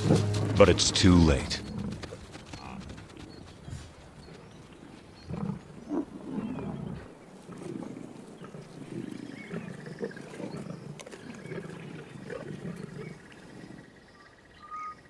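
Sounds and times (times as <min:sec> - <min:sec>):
lions growling: 0:01.2 - 0:13.8.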